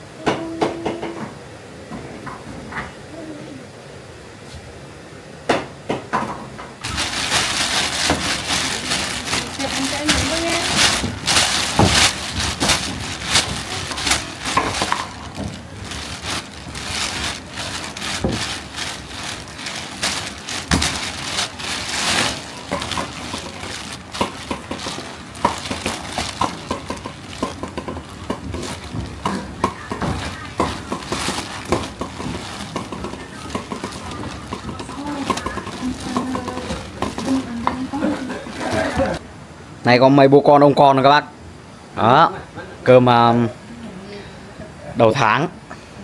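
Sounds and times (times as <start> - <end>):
noisy background: 0.0 - 46.0.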